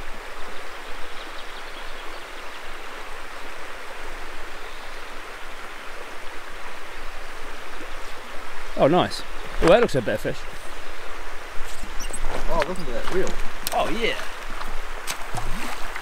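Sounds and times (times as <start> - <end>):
stream water running over gravel: 0.0 - 16.0.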